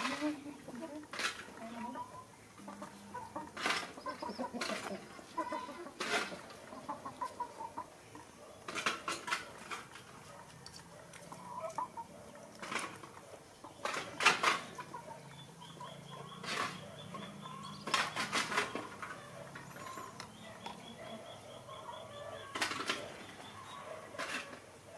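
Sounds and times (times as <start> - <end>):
clucking calls: 0.0 - 24.9.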